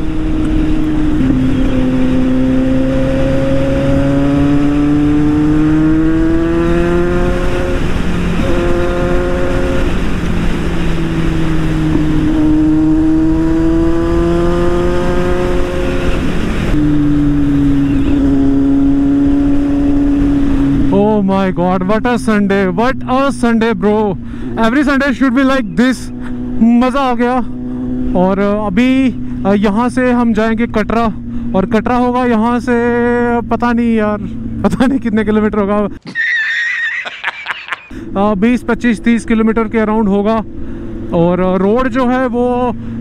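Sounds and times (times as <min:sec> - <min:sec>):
motorcycle engine revving: 0:00.0 - 0:35.5
wind and road noise: 0:00.0 - 0:43.0.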